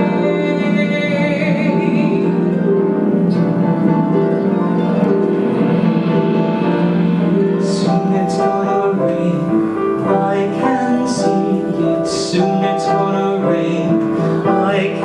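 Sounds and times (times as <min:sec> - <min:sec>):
duet singing: 0:00.0 - 0:15.0
piano accompaniment with held chords: 0:00.0 - 0:15.0.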